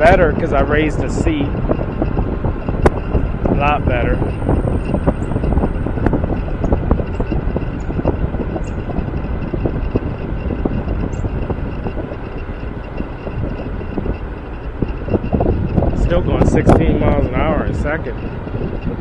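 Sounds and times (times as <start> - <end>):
road rumble: 0.0 - 19.0
wind buffeting microphone: 0.0 - 19.0.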